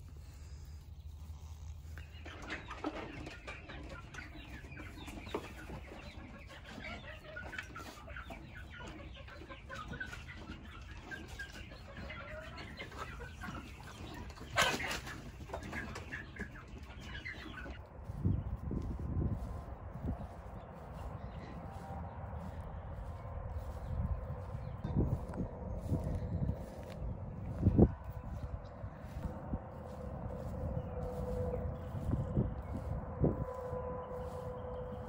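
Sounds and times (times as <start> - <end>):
chickens clucking: 0.0 - 35.0.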